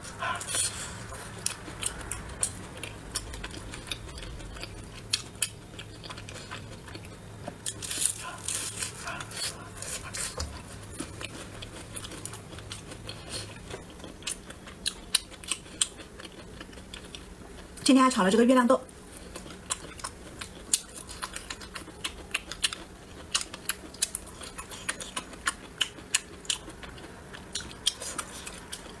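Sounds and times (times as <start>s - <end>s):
faint low hum: 0.0s - 29.0s
wet chewing and biting sounds: 0.1s - 17.7s, 19.0s - 29.0s.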